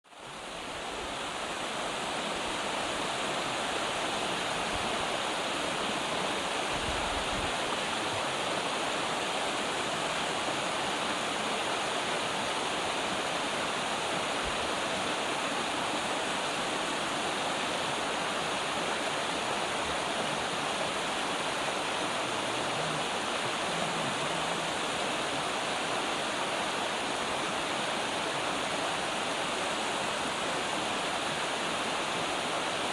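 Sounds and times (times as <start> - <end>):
water rushing over rocks: 0.1 - 32.9.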